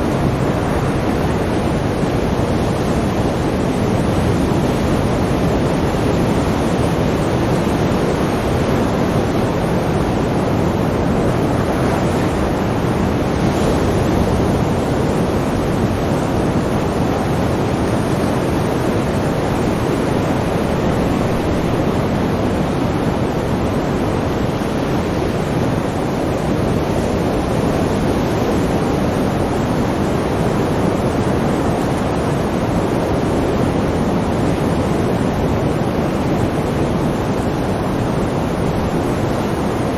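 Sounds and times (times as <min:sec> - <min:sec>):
roar of sea waves: 0:00.0 - 0:39.9.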